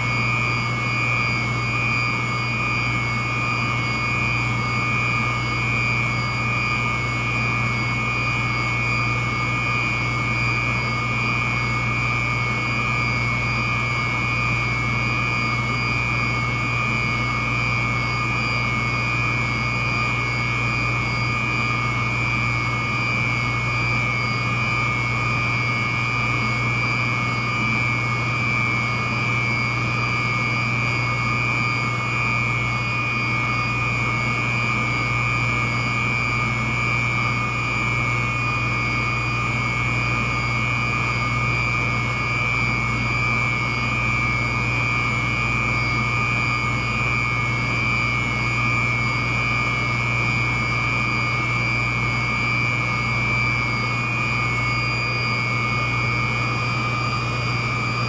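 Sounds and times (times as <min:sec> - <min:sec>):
chiller machine hum and whine: 0:00.0 - 0:58.0.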